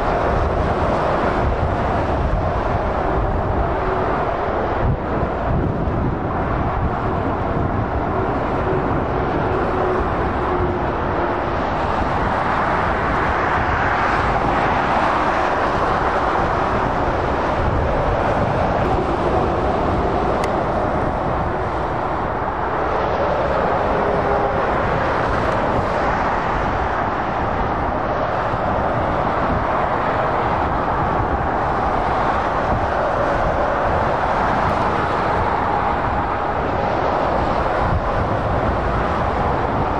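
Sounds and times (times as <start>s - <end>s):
motorway traffic passing: 0.0s - 39.9s.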